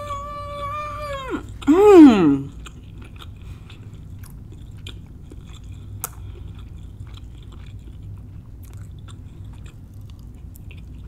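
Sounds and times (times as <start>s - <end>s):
close chewing of food: 0.0s - 11.0s.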